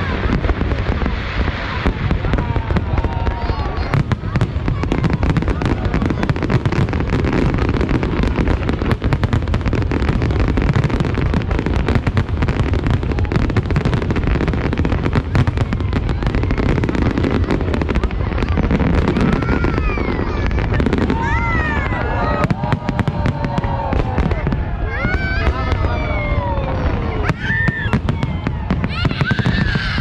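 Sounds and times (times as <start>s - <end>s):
fireworks crackling bursts: 0.0s - 30.0s.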